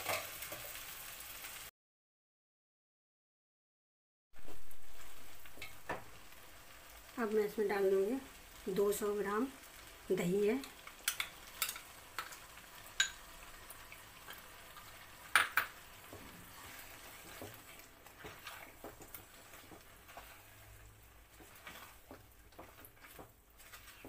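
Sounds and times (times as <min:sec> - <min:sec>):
faint sizzle: 0:00.0 - 0:01.7, 0:04.4 - 0:24.0.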